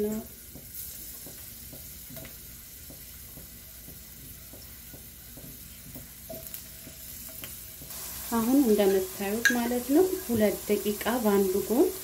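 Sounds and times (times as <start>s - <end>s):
potato slices sizzling in oil: 0.0s - 12.0s.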